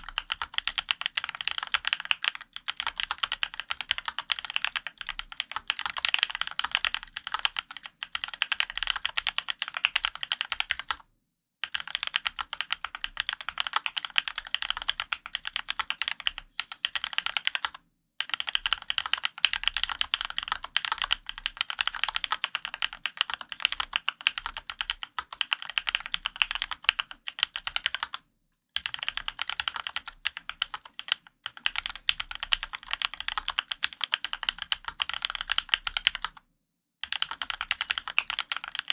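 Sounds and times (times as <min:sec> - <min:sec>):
mechanical keyboard typing: 0:00.0 - 0:11.0, 0:11.6 - 0:28.2, 0:28.8 - 0:36.4, 0:37.0 - 0:38.9.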